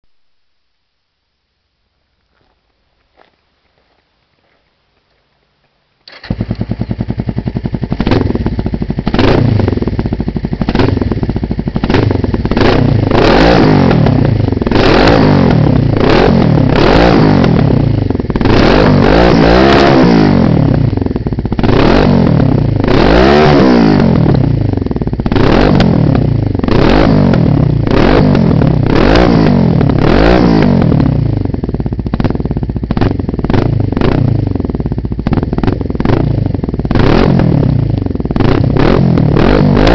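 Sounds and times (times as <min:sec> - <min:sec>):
motorcycle engine revving: 0:06.1 - 0:39.9.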